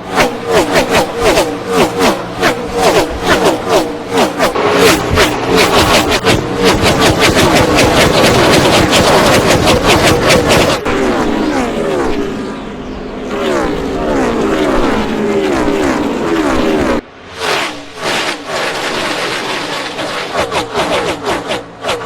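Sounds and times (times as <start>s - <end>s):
race cars passing at full throttle: 0.0s - 22.0s.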